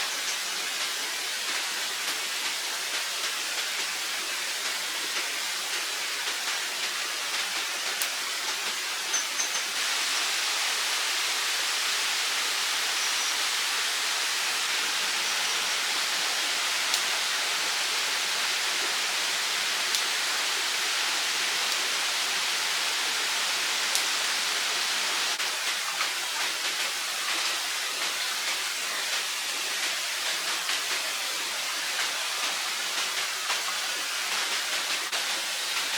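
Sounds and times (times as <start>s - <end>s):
running water: 0.0s - 35.9s.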